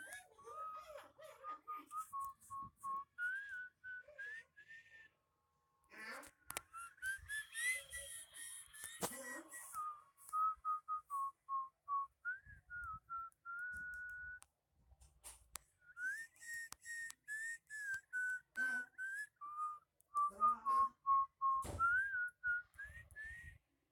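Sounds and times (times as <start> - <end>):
person whistling a tune: 1.4 - 5.0, 6.6 - 14.4, 15.8 - 23.6.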